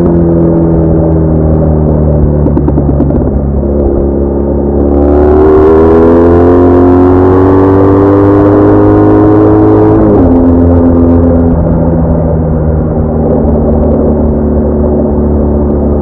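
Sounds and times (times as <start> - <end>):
motorcycle engine accelerating: 0.0 - 16.0
wind noise: 0.0 - 16.0.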